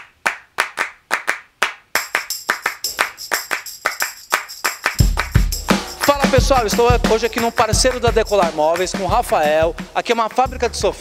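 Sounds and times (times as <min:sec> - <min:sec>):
handclaps: 0:00.0 - 0:09.6.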